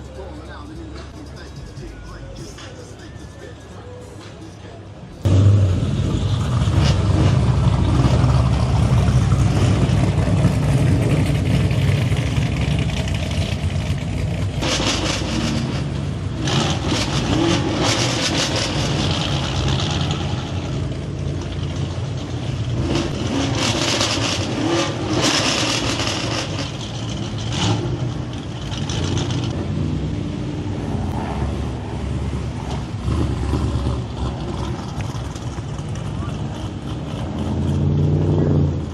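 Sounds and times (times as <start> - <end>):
car engine and exhaust rumbling: 0.0 - 38.9.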